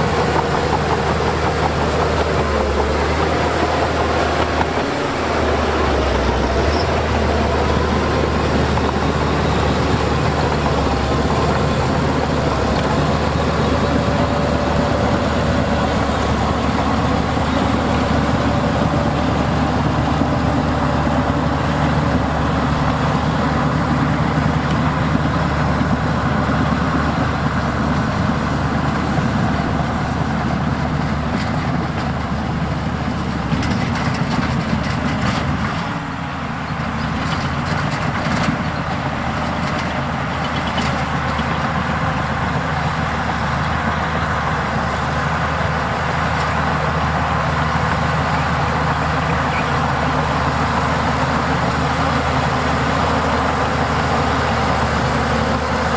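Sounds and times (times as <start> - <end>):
heavy diesel machinery engines: 0.0 - 55.9.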